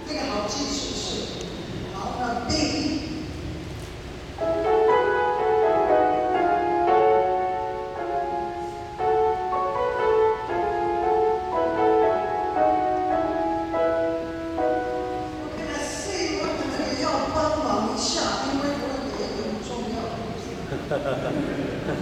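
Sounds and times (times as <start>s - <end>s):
grand piano melody: 0.0s - 20.7s.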